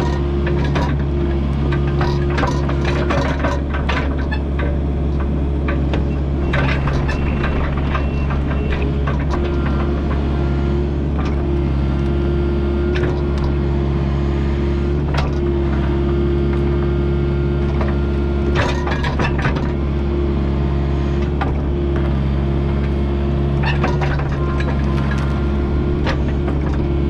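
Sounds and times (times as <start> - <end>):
mini excavator running: 0.0 - 27.0.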